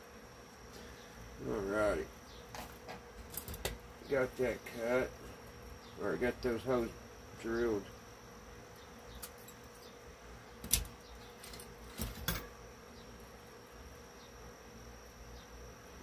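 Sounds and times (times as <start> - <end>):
faint buzzing hum: 0.0 - 16.0.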